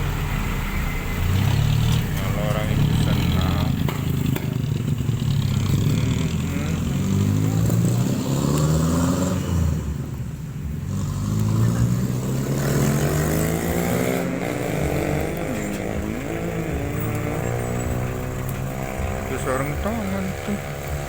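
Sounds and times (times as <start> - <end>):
motorcycle engines passing: 0.0 - 21.0.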